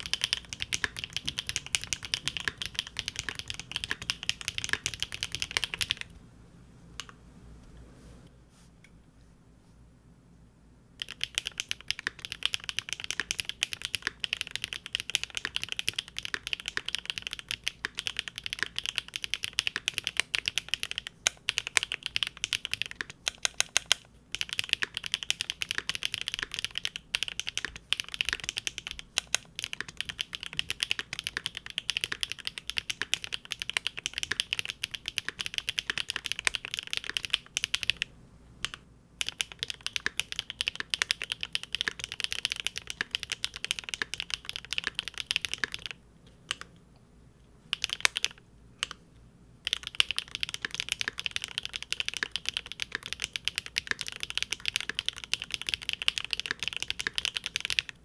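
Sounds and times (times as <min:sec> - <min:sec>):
typing on mechanical keyboard: 0:00.0 - 0:06.1, 0:11.0 - 0:46.7, 0:47.7 - 0:49.0, 0:49.6 - 0:58.0.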